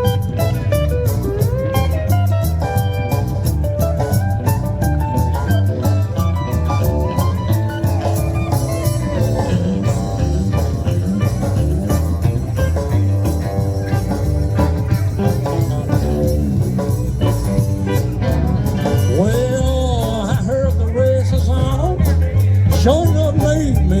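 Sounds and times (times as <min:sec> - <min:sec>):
bass line: 0:00.0 - 0:24.0
drums: 0:00.0 - 0:24.0
electric guitar lead: 0:00.0 - 0:24.0.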